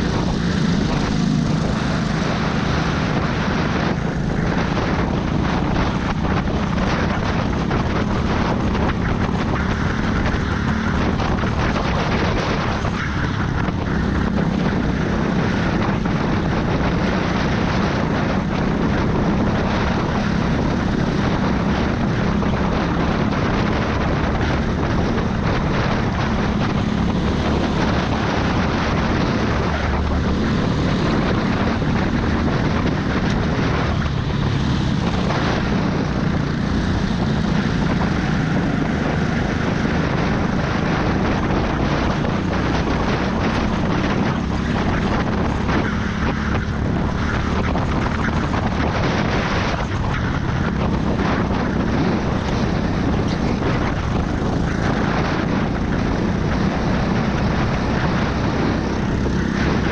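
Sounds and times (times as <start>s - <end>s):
go-kart engine droning: 0.0s - 59.9s
wind on microphone: 0.0s - 59.9s.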